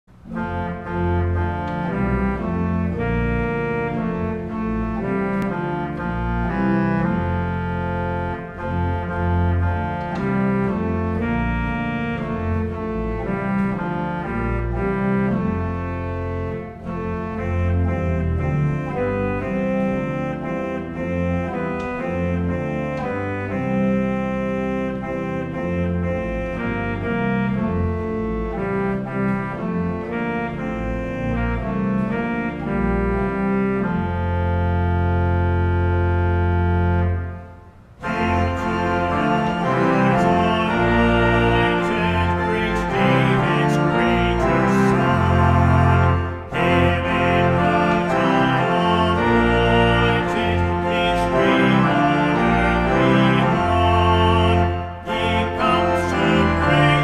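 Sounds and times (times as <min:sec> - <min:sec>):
organ playing a hymn: 0:00.1 - 0:57.0.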